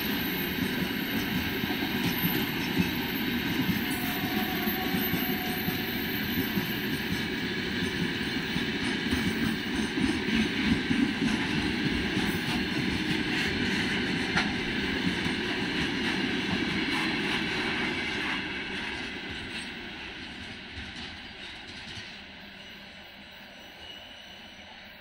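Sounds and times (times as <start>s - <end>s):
freight train wheels clattering: 0.0s - 22.6s.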